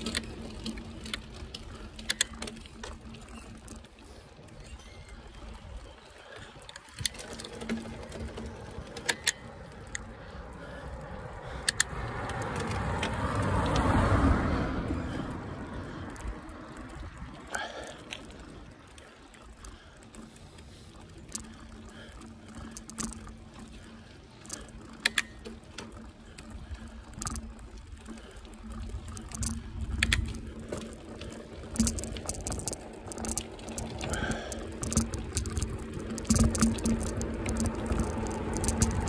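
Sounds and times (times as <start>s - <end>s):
bicycle tyre road rumble: 0.0s - 39.0s
bike clicks and rattles: 0.0s - 39.0s.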